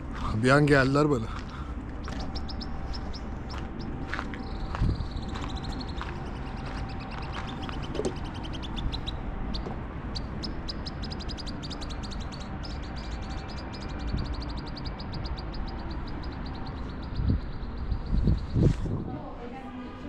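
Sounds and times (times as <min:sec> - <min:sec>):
steady low rumble: 0:00.0 - 0:20.0
bird chirping: 0:01.5 - 0:18.8.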